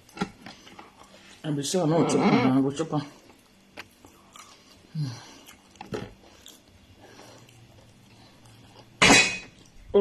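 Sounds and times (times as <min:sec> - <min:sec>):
person chewing food: 0:00.0 - 0:01.4, 0:03.1 - 0:10.0.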